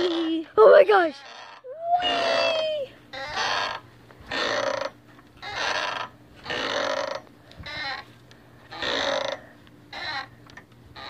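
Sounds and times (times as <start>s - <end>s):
rocking swing creaking: 0.0s - 11.0s.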